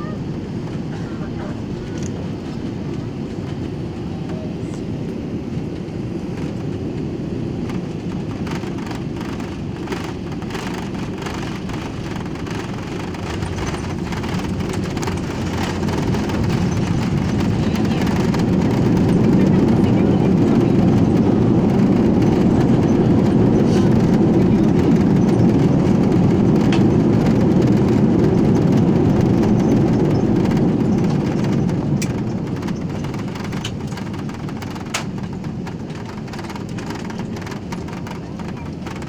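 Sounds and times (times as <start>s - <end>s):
airliner cabin rumble: 0.0s - 39.0s
rattling: 7.7s - 39.0s.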